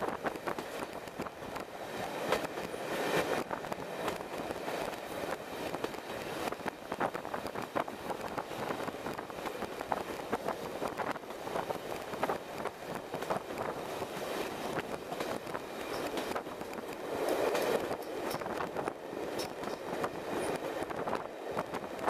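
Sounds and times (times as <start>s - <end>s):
train wheels rumbling on rail: 0.0s - 22.0s
wind rushing past window: 0.0s - 22.0s.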